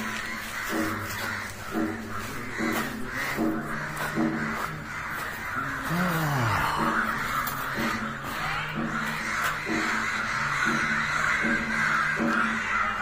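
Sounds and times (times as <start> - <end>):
crows cawing: 0.0 - 13.0.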